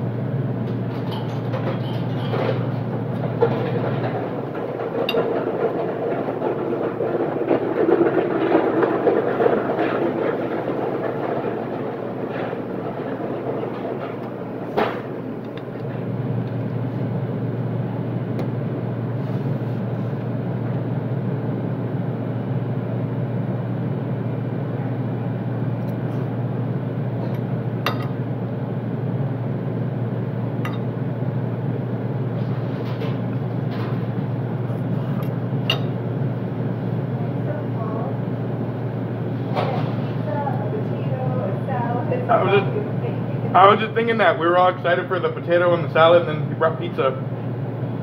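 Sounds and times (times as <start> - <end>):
kitchen equipment humming: 0.0 - 48.0.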